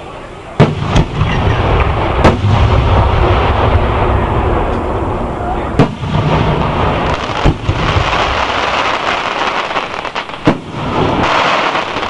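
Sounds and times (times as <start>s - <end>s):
crackling hiss of fireworks: 0.0s - 12.0s
fireworks bangs: 0.0s - 12.0s.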